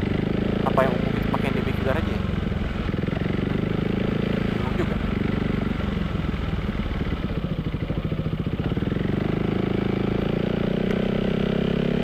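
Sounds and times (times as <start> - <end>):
scooter engine accelerating: 0.0 - 12.0.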